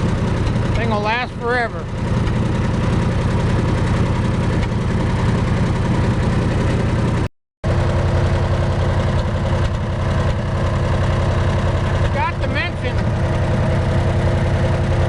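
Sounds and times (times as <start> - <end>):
welder engine idling: 0.0 - 15.0.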